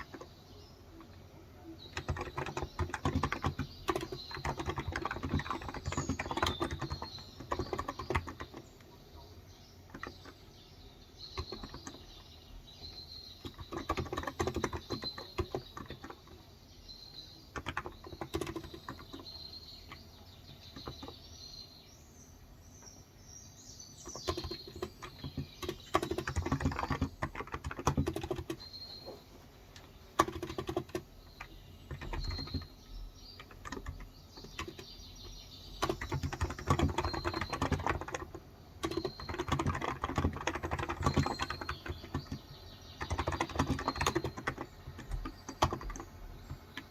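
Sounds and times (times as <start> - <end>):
keyboard typing: 0.0 - 0.4, 1.8 - 8.9, 9.8 - 10.5, 11.2 - 16.4, 17.2 - 21.2, 24.0 - 46.9
birds chirping: 0.0 - 46.9.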